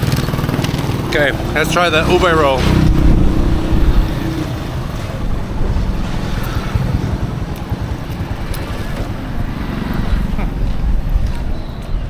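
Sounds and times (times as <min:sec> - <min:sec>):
small engine passing: 0:00.0 - 0:12.0
street traffic: 0:00.0 - 0:12.0
wind buffeting microphone: 0:00.0 - 0:12.0.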